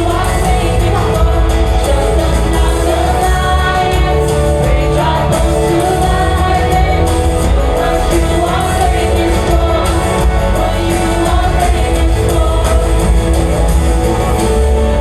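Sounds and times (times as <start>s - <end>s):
worship band playing: 0.0s - 15.0s.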